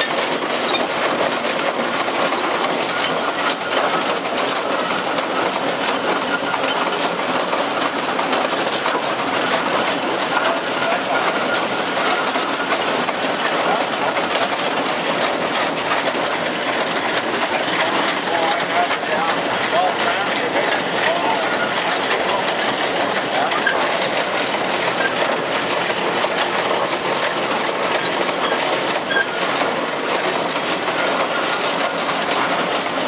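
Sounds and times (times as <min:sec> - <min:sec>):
steam traction engine running: 0:00.0 - 0:33.0.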